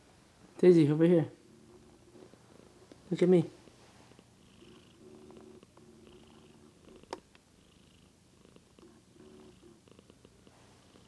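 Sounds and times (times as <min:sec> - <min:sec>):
cat purring softly: 0:01.5 - 0:11.0.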